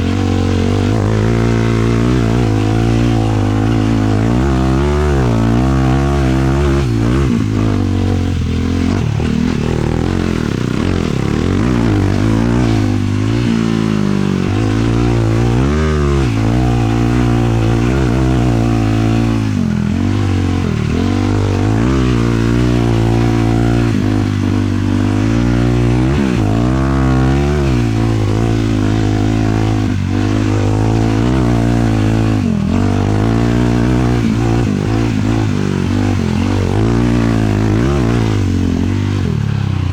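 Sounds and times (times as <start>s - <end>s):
quad engine revving under load: 0.0s - 39.9s.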